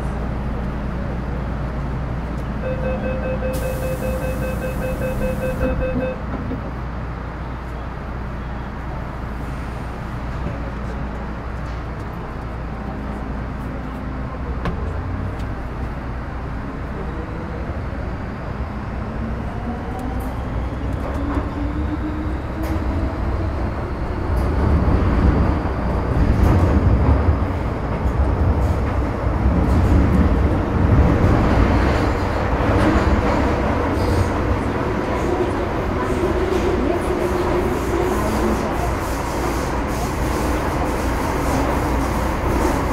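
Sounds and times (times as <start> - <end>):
train running rumble: 3.5 - 42.9.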